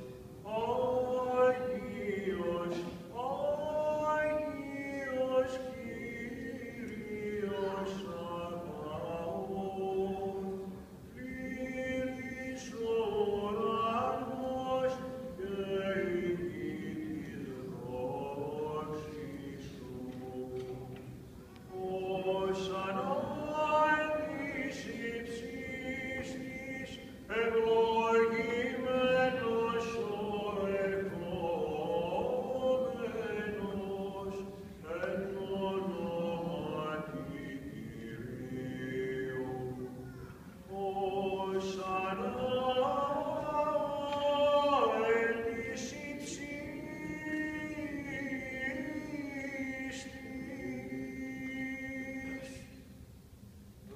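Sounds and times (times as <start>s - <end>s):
man chanting: 0.0s - 21.0s, 21.7s - 52.8s.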